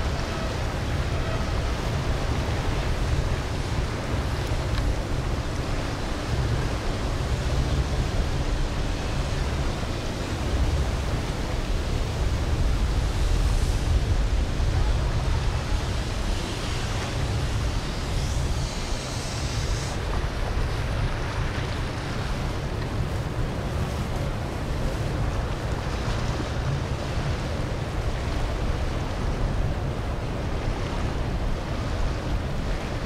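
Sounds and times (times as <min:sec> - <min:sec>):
boat engines droning: 0:00.0 - 0:33.0
wind buffeting microphone: 0:00.0 - 0:33.0.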